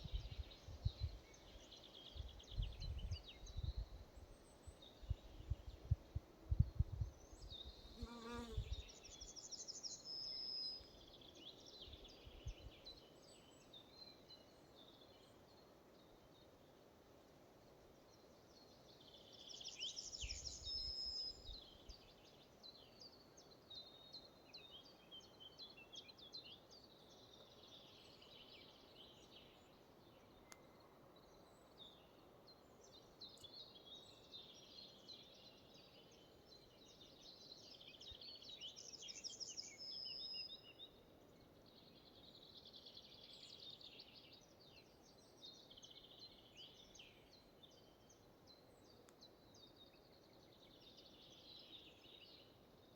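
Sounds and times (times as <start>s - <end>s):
songbirds singing: 0.0s - 16.8s, 17.7s - 52.9s
soft steady hiss: 0.0s - 52.9s.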